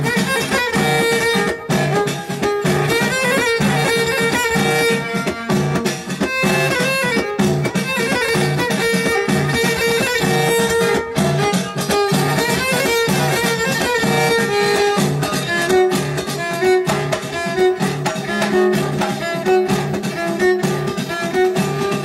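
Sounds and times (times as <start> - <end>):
frame drums beating: 0.0 - 22.0
violin melody: 0.0 - 22.0.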